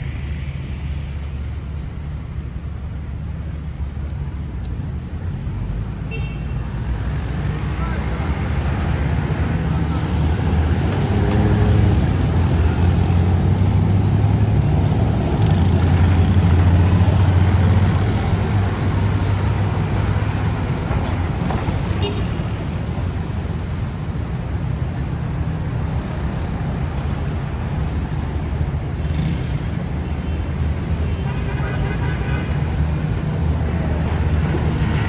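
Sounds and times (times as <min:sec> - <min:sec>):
rumble of passing cars: 0:00.0 - 0:35.0.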